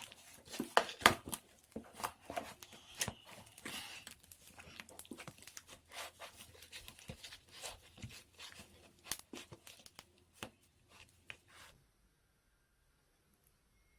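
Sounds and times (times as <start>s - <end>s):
hands kneading sticky slime: 0.0s - 11.8s.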